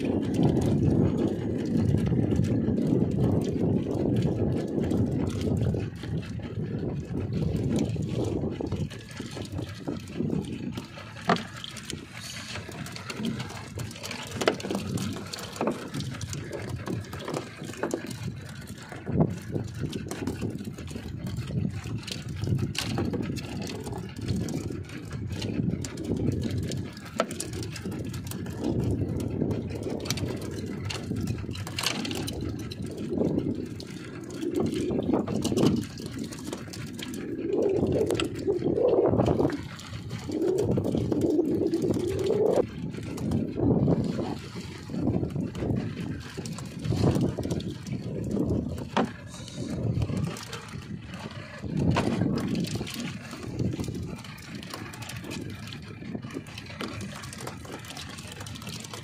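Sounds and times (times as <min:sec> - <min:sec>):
water lapping against boat hull: 0:00.0 - 0:59.0
waves slapping hull: 0:00.0 - 0:59.0.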